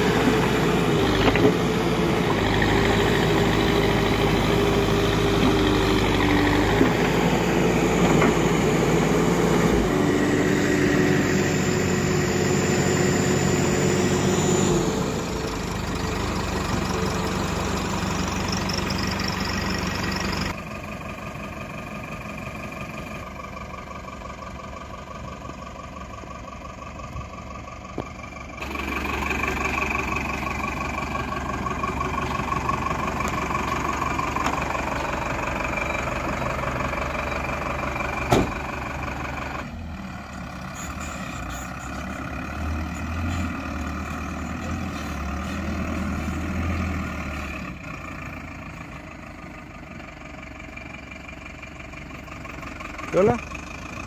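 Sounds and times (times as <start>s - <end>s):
diesel engines idling and running: 0.0s - 54.0s.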